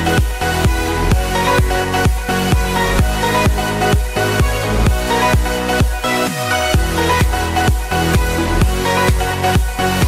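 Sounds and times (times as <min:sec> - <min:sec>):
steady kick drum: 0:00.0 - 0:06.0, 0:06.8 - 0:10.0
electronic dance music: 0:00.0 - 0:10.0.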